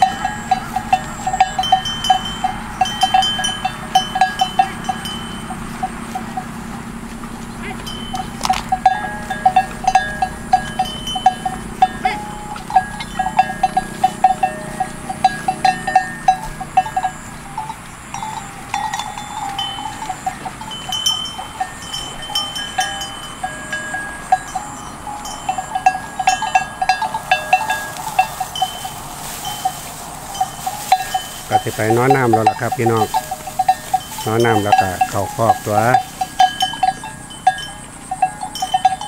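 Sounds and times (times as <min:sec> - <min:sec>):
animal bells clanking: 0:00.0 - 0:39.0.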